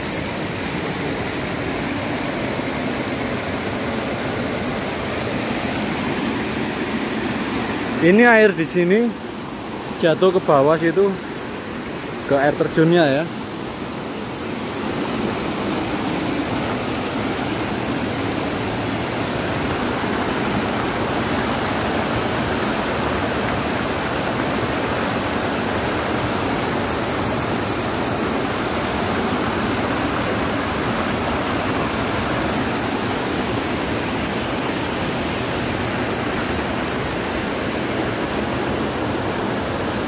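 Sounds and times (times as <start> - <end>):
small waterfall rushing: 0.0 - 40.0.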